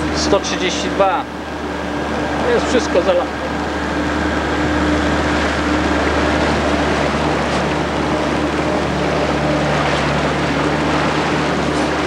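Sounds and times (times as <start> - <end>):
motorboat engine running: 0.0 - 12.0
rushing water: 0.0 - 12.0.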